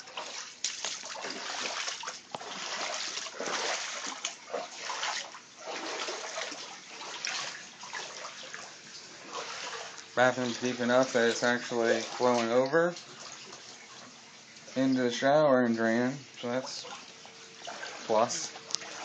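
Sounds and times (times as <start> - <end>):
floodwater splashing and sloshing: 0.0 - 19.0.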